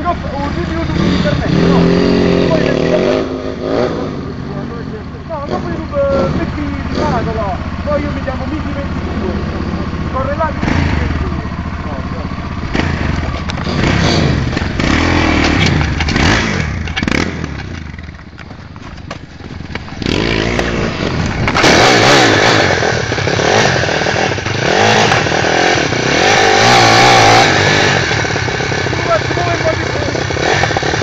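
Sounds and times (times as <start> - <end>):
motorbike engines idling and revving: 0.0 - 31.0.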